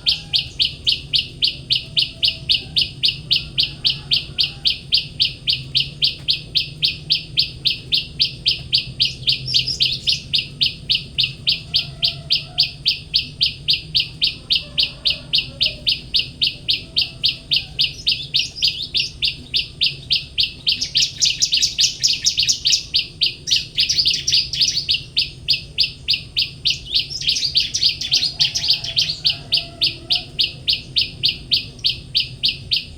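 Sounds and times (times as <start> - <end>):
bird song bursts: 0.0 - 32.9
songbird rapid chirping: 0.0 - 32.9.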